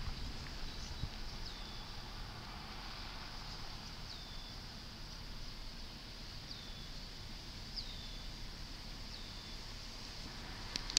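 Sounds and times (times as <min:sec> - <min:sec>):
low rumble and hiss: 0:00.0 - 0:10.9.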